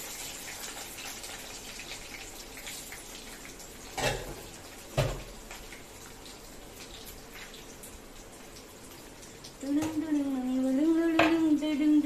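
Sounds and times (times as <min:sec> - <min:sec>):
onion frying in hot oil: 0:00.0 - 0:12.0.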